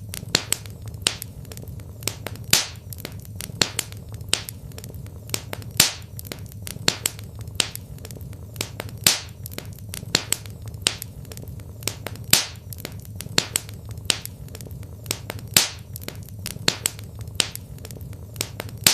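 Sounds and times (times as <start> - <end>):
low steady hum: 0.0 - 18.9
wood fire crackling: 0.0 - 18.9.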